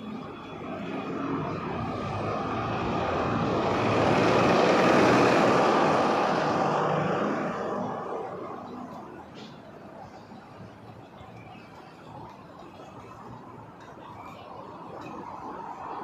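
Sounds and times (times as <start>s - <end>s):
bus passing by: 0.0s - 14.0s.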